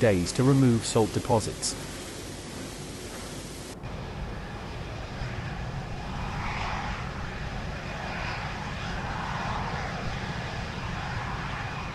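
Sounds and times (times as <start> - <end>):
aircraft engines rumbling: 0.0 - 11.9.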